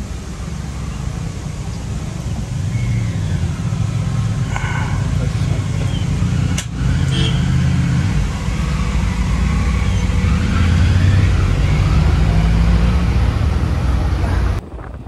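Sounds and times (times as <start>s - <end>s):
loud low rumble: 0.0s - 14.9s.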